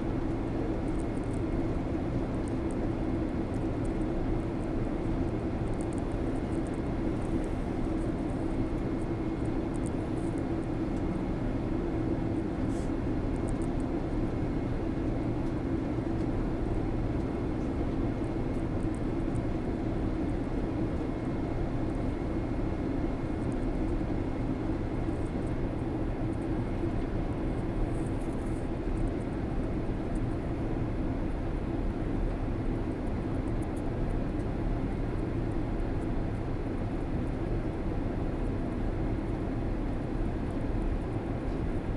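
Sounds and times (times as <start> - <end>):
airliner engines droning: 4.2 - 41.9.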